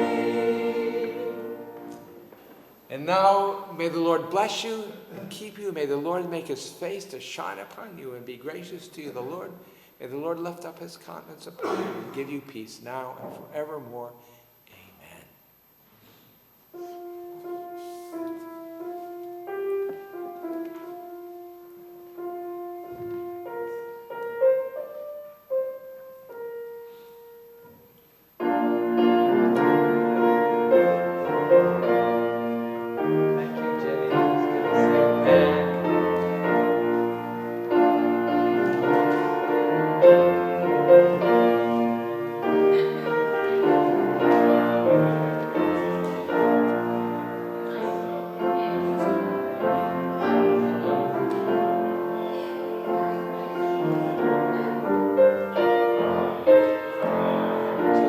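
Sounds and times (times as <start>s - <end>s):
piano playing: 0.0s - 7.0s, 16.8s - 58.0s.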